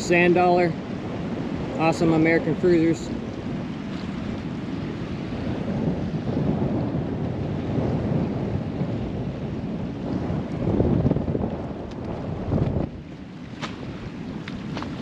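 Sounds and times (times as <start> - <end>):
choppy sea water: 0.0 - 15.0
wind buffeting microphone: 0.0 - 15.0.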